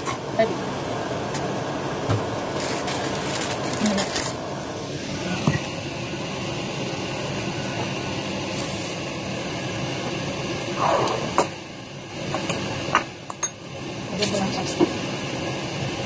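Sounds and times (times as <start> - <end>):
steady room hum: 0.0 - 16.0.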